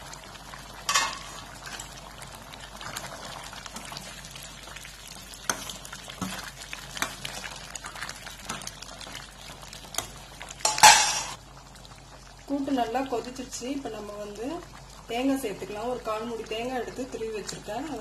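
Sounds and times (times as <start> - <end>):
thick stew bubbling: 0.0 - 18.0.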